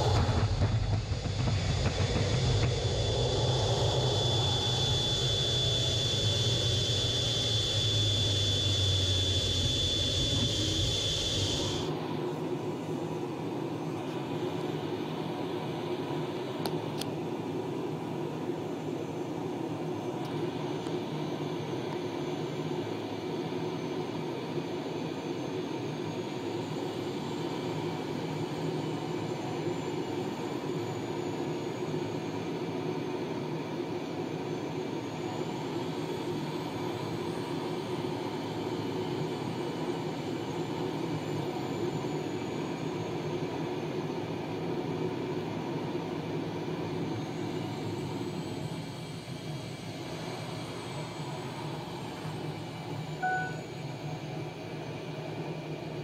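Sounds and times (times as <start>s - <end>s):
jet engine and cockpit airflow: 0.0s - 56.0s.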